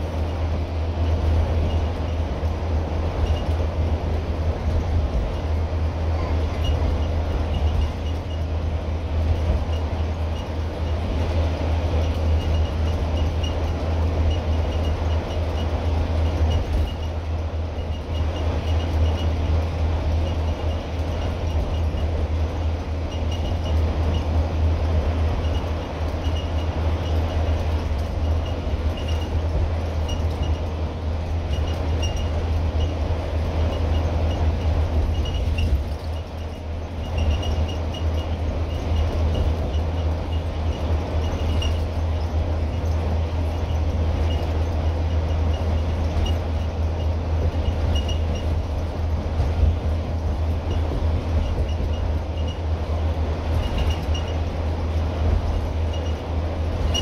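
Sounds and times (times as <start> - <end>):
diesel bus engine droning: 0.0 - 57.0
light ticking rattles: 0.0 - 57.0
road noise: 0.0 - 57.0.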